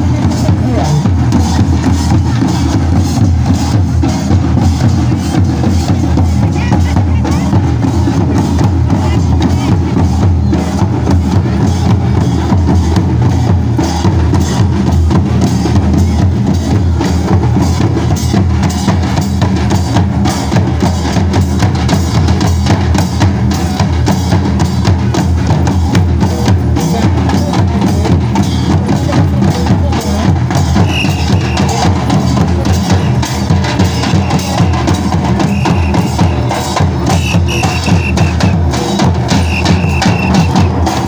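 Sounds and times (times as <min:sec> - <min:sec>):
drums beating dance rhythm: 0:00.0 - 0:41.0.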